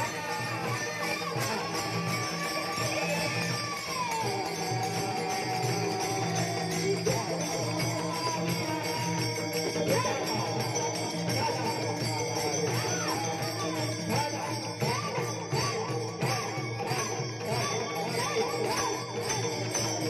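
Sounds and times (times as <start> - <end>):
hand cymbals jingling: 0.0 - 20.0
voices singing: 0.0 - 20.0.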